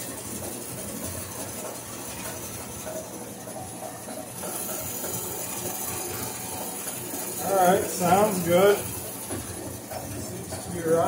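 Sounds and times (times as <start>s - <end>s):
bandsaw motor hum: 0.0s - 11.0s.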